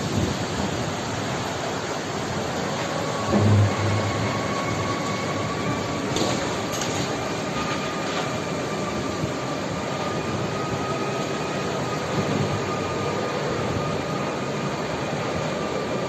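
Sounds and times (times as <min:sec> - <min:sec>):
roar of tornado wind: 0:00.0 - 0:15.8.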